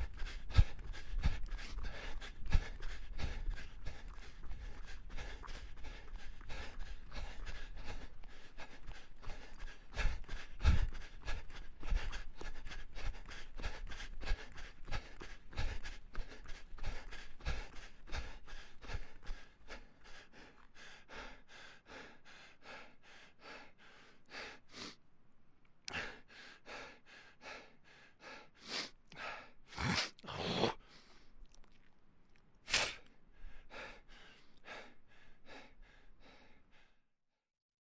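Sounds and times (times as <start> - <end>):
person panting hard: 0.0 - 25.0, 25.9 - 31.3, 32.7 - 37.1.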